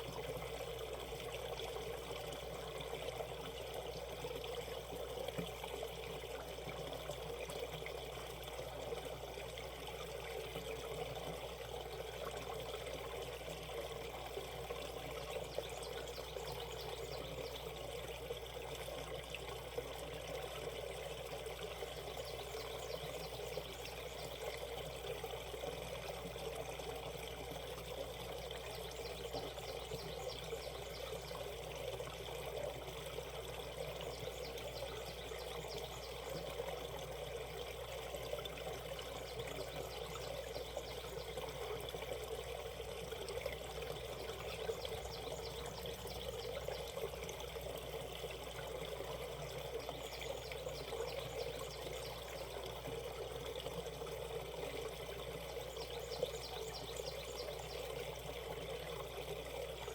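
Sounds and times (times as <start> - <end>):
stream water rippling: 0.0 - 59.9.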